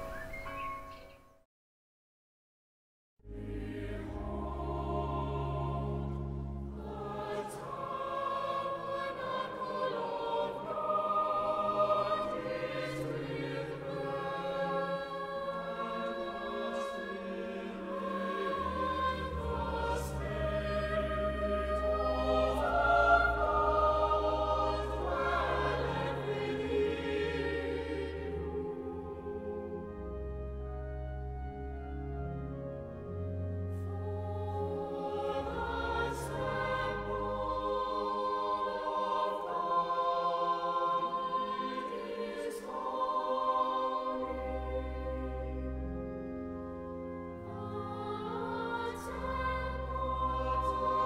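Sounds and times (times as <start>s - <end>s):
choir singing: 3.3s - 51.0s
low organ notes: 3.3s - 51.0s.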